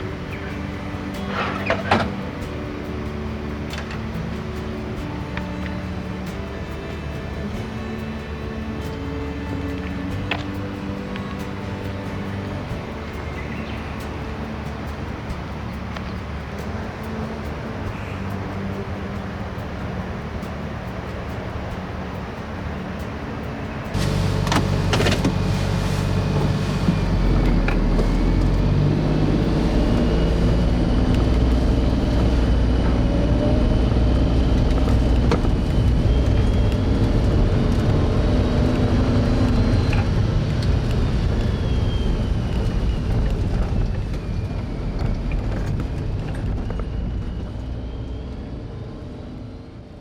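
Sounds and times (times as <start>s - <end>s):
road noise: 0.0s - 50.0s
vehicle engine rumble: 0.0s - 50.0s.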